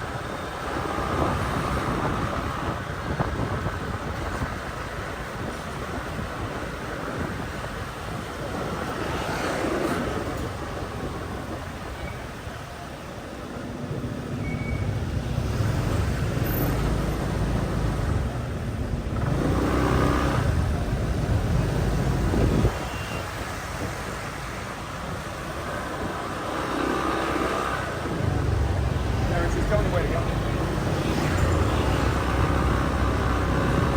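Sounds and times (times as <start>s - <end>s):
motorbike engine and road rumble: 0.0s - 33.9s
street traffic: 0.0s - 33.9s.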